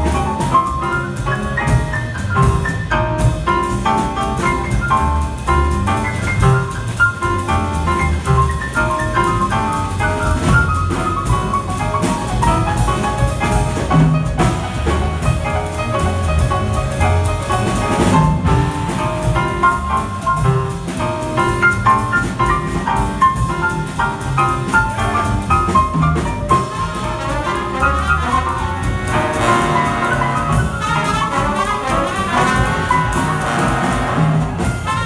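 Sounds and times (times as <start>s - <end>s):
jazz big band playing: 0.0s - 35.0s.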